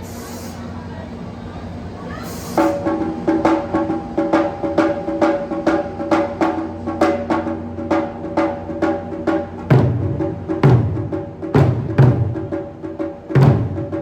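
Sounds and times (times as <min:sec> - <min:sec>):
drums in driving rhythm: 0:02.2 - 0:14.0.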